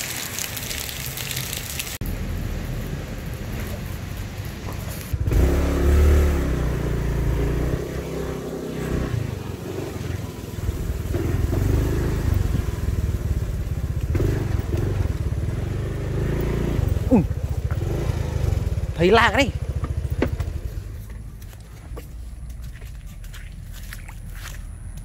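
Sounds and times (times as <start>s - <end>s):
small motorbike engine running: 2.0s - 25.0s.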